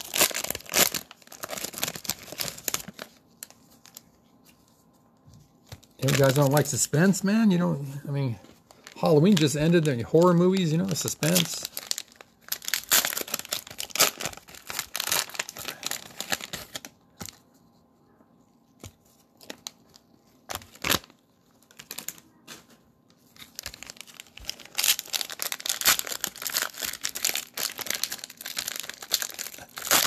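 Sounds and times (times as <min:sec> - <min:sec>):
cellophane wrappers crinkling: 0:00.0 - 0:04.5, 0:05.6 - 0:07.6, 0:08.5 - 0:17.6, 0:19.0 - 0:30.0.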